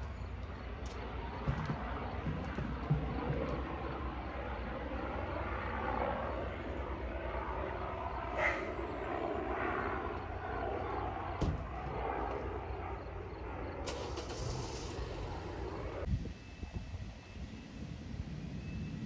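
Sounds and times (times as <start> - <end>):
aircraft engine drone: 0.0 - 19.0.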